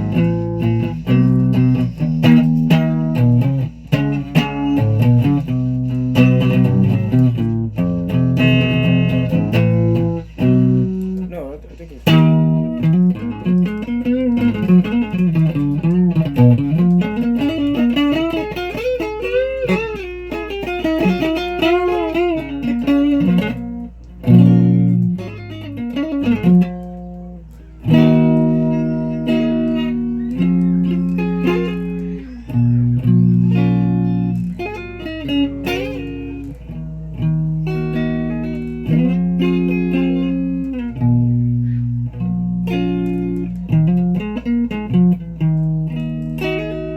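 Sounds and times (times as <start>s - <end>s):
guitar played with a pick: 0.0s - 46.9s.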